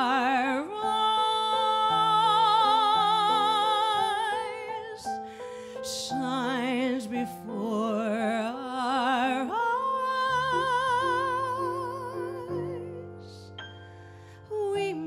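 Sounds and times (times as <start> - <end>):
woman singing jazz with vibrato: 0.0 - 5.2, 5.9 - 13.3, 14.5 - 15.0
grand piano accompaniment: 0.0 - 15.0.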